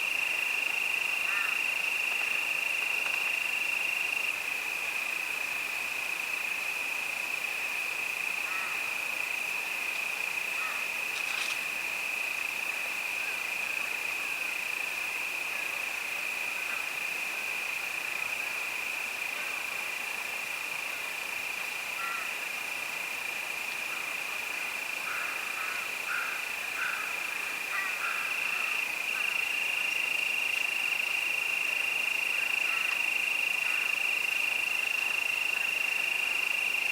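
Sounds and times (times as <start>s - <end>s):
crickets chorus: 0.0s - 36.9s.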